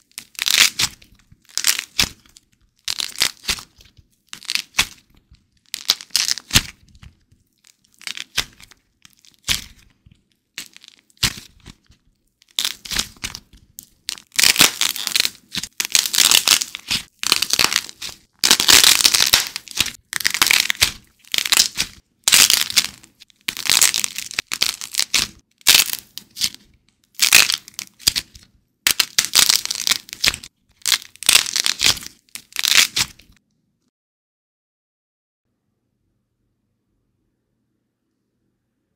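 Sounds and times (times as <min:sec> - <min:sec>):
dry clay crackling and crunching: 0:00.0 - 0:33.4.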